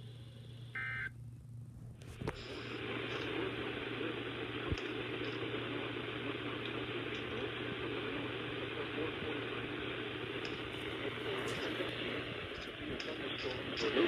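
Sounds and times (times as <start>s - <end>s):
radio static hiss: 2.0s - 14.0s.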